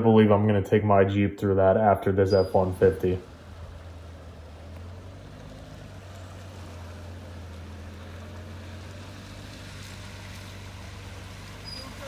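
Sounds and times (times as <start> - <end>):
vehicle engine running: 1.4 - 12.0.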